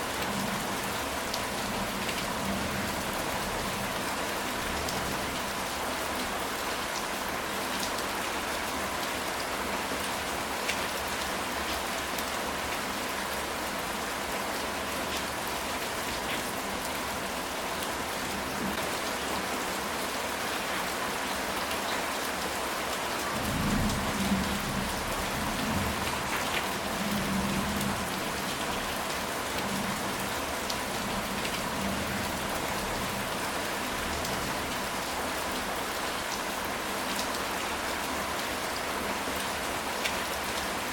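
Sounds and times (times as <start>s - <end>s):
rain on a tile roof: 0.0s - 40.9s.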